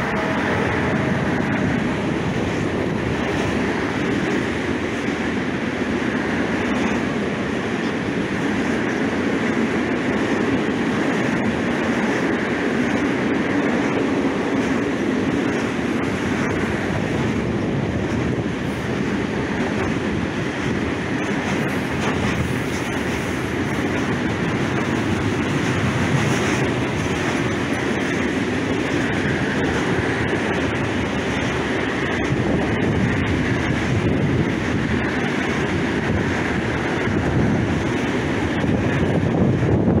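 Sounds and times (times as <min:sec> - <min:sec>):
freight train wheels rumbling: 0:00.0 - 0:40.0.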